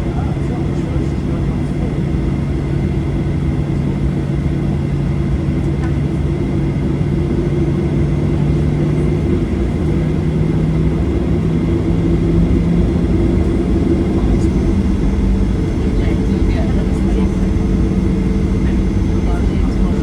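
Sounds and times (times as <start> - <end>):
jet engines rumbling in cabin: 0.0 - 20.0.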